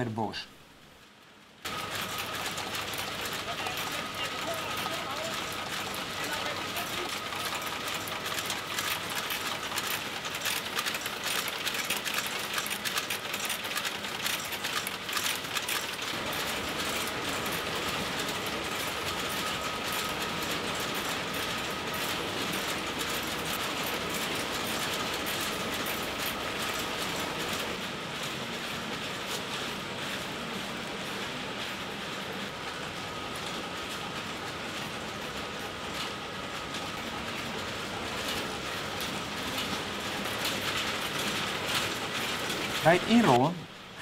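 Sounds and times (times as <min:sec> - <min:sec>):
steady machine hum: 0:00.0 - 0:44.0
machine grippers clicking and clattering: 0:01.7 - 0:31.2, 0:34.1 - 0:43.6.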